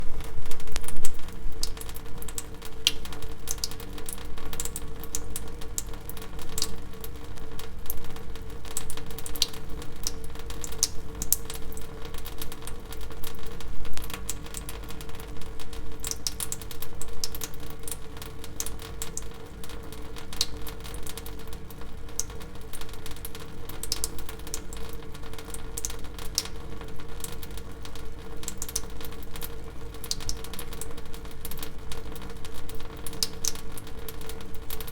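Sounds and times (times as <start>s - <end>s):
water dripping: 0.0s - 34.9s.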